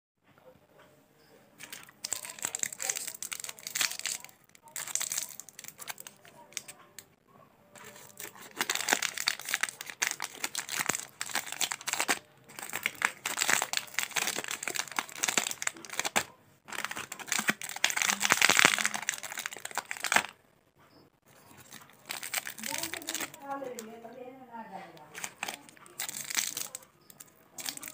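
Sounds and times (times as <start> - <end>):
sweet wrappers crinkling: 1.6 - 7.1, 7.8 - 20.4, 21.3 - 24.2, 25.0 - 27.9.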